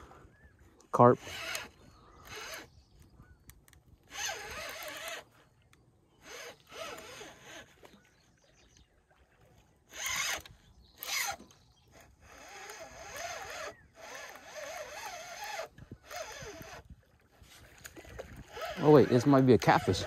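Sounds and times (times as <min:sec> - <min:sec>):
fishing reel whirring: 0:00.0 - 0:08.1, 0:09.4 - 0:20.0
fishing reel zipping: 0:01.0 - 0:08.0, 0:09.8 - 0:20.0.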